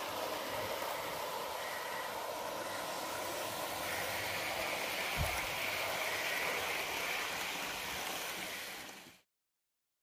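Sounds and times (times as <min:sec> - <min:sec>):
model train wheels rolling on rail: 0:00.0 - 0:09.2.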